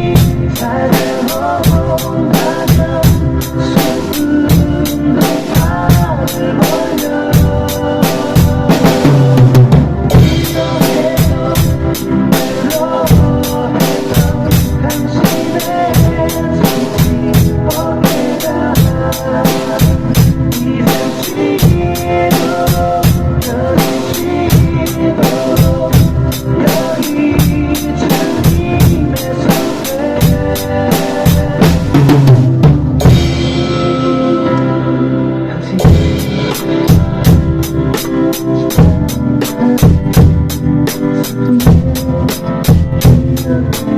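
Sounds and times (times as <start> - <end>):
drum kit playing: 0.0 - 43.9
worship song music: 0.0 - 43.9.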